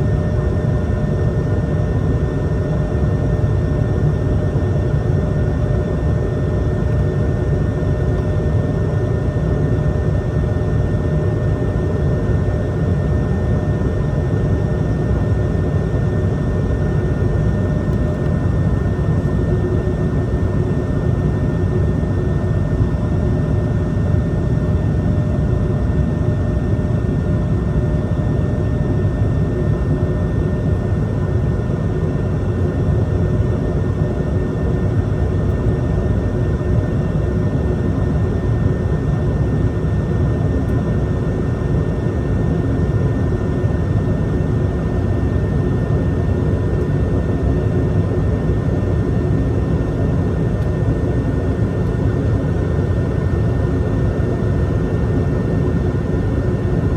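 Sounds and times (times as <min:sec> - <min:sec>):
jet engines rumbling and whining: 0:00.0 - 0:56.9.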